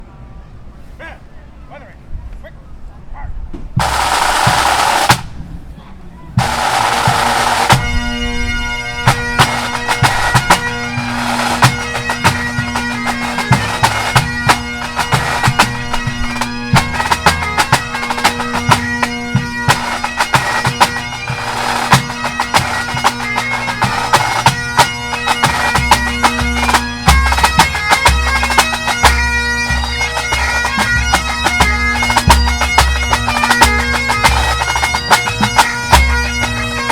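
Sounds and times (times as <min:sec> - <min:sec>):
bagpipes playing: 0:03.8 - 0:05.3, 0:06.4 - 0:36.9.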